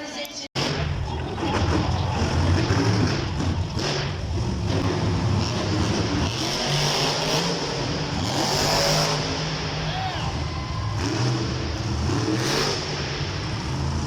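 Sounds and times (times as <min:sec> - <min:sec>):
monster truck engines revving: 0:00.6 - 0:14.0.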